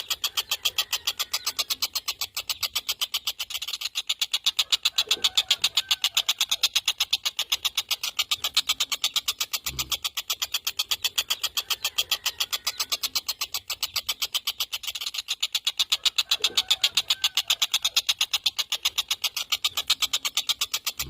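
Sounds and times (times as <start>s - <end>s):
kingfisher chattering trill: 0.0s - 21.0s.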